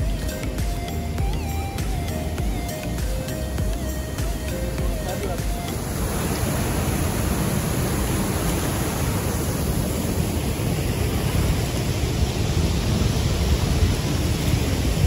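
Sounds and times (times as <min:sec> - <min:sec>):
churning white-water river: 0:00.0 - 0:15.0
waterfalls rushing: 0:00.0 - 0:15.0.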